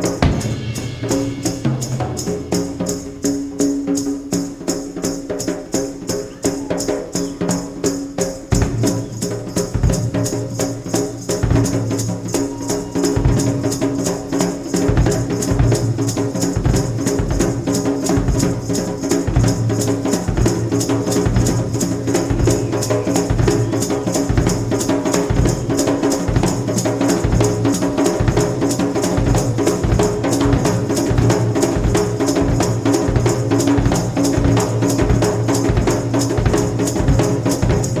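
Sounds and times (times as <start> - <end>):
drum-led background music: 0.0 - 6.0, 7.2 - 38.0.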